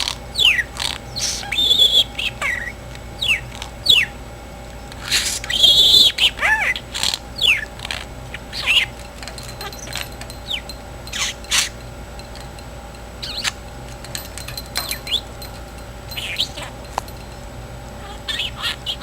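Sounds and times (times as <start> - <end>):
budgerigar chirping: 0.0 - 4.2, 4.8 - 11.8, 13.2 - 13.6, 14.5 - 19.0.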